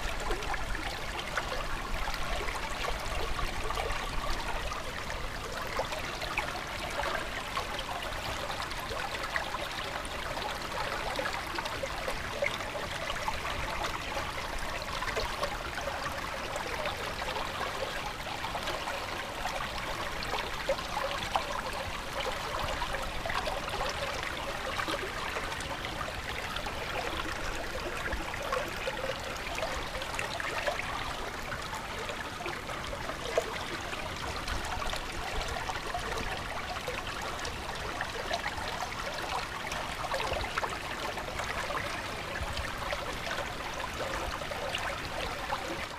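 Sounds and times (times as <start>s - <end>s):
stream water trickling: 0.0s - 45.9s.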